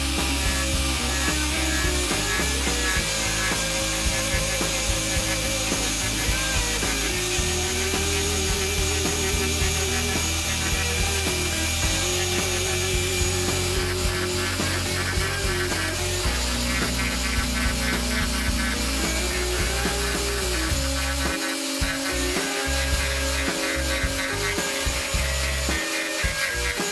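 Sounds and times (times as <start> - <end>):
grinder cutter carving wood: 0.0 - 26.9.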